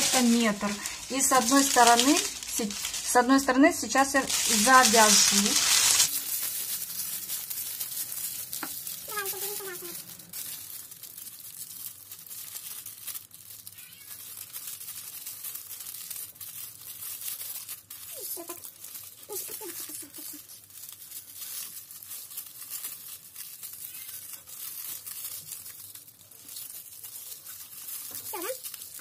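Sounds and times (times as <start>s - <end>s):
plastic sleeve crinkling: 0.0s - 29.0s.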